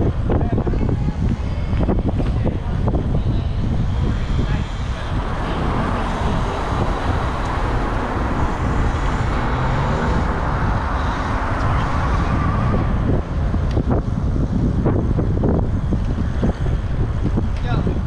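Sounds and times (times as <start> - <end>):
tyres on road: 0.0 - 18.0
wind on microphone: 0.0 - 18.0.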